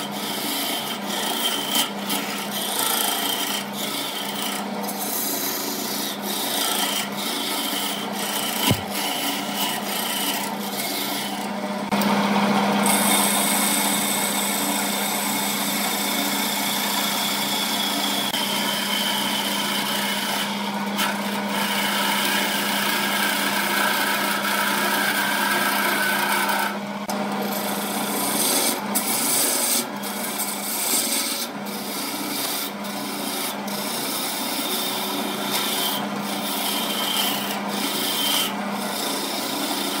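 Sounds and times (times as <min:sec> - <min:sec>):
gouge scraping spinning wood: 0:00.0 - 0:12.0, 0:12.8 - 0:40.0
wood lathe humming: 0:00.0 - 0:40.0.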